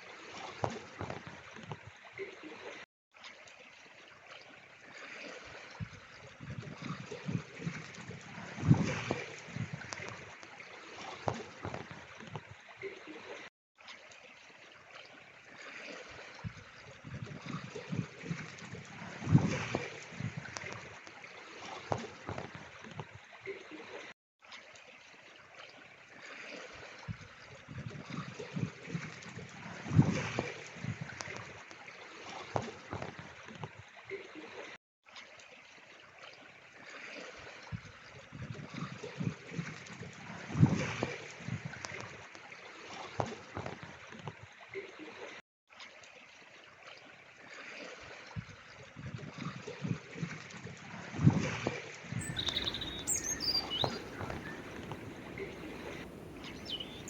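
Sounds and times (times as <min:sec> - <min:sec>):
trickling gurgling water: 0:00.0 - 0:57.0.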